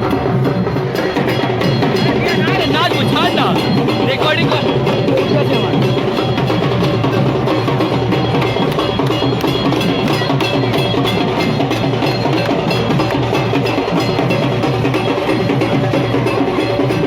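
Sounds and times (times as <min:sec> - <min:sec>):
bells: 0:00.0 - 0:17.0
wood-block beat: 0:00.0 - 0:17.0.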